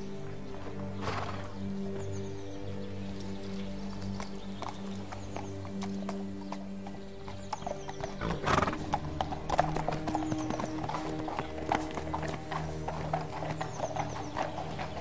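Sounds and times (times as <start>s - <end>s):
hooves clip-clopping on stone: 0.0s - 15.0s
soft orchestral music: 0.0s - 15.0s.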